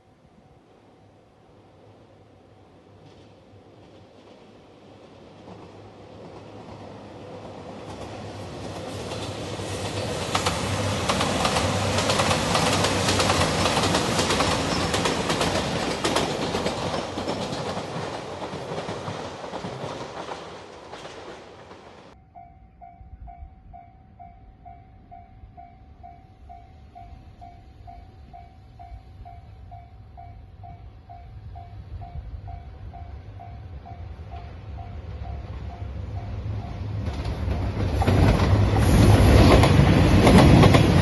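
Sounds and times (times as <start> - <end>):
diesel train passing: 0.0 - 41.0.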